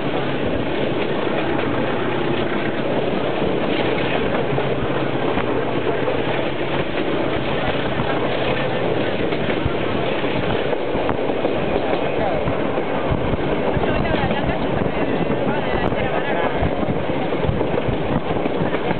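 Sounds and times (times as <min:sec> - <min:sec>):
diesel locomotive engine humming: 0:00.0 - 0:18.9
rail joint clicks: 0:00.0 - 0:18.9
wheels rumbling on rail: 0:00.0 - 0:18.9.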